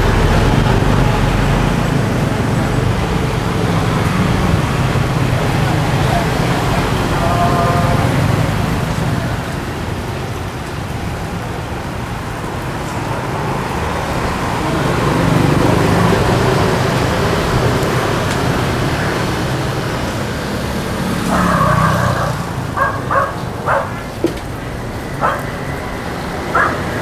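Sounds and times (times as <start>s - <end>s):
road traffic passing: 0.0s - 27.0s.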